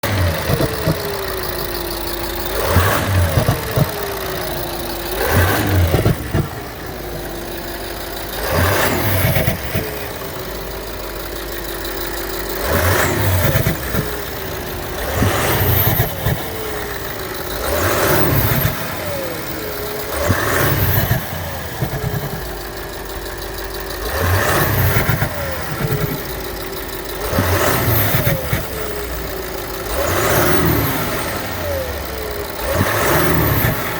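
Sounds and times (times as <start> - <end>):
car engine revving: 0.0 - 33.9
engine knock: 0.0 - 33.9.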